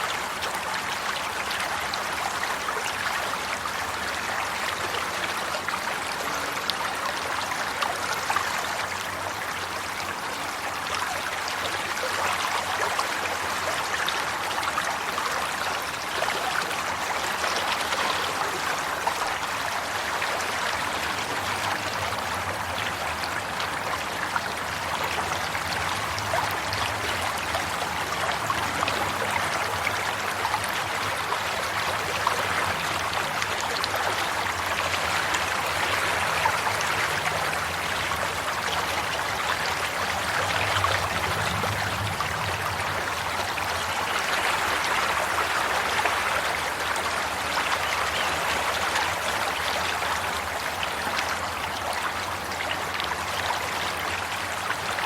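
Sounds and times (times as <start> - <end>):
running water rushing and trickling: 0.0 - 55.0.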